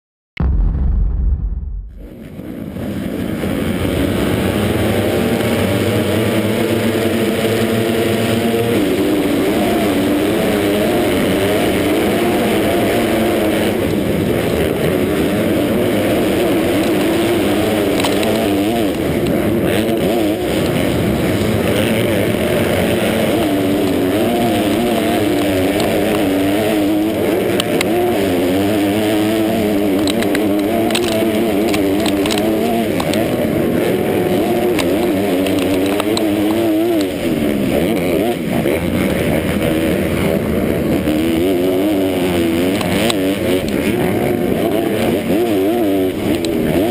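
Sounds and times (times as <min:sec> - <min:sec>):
motocross bike engine revving: 0:02.0 - 0:46.9
motocross bikes racing: 0:02.3 - 0:46.9.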